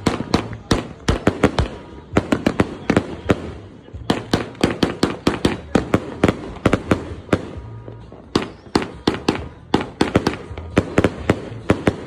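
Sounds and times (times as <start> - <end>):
firework cake firing sharp reports: 0.0 - 12.0.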